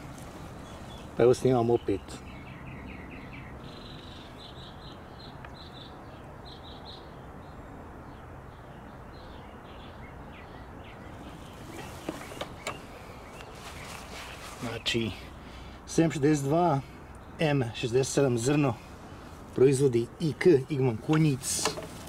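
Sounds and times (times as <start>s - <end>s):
bird chirping: 0.0s - 22.0s
outdoor background noise: 0.0s - 22.0s.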